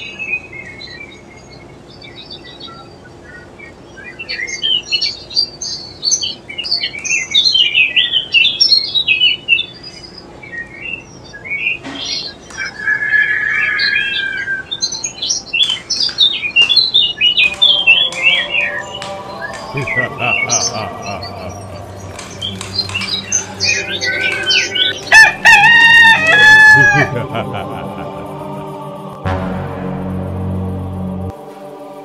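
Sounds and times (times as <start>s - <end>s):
birds chirping and twittering: 0.0s - 29.2s.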